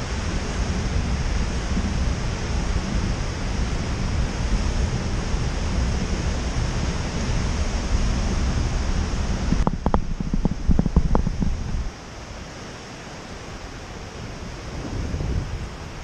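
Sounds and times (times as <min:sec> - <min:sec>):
tyre hiss on wet road: 0:00.0 - 0:16.0
wind rushing over microphone: 0:00.0 - 0:16.0.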